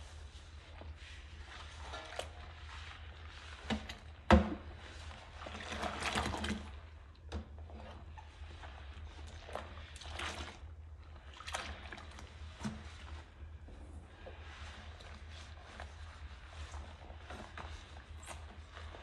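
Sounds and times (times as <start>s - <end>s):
hands scrubbing dishes in water: 0.0s - 19.0s.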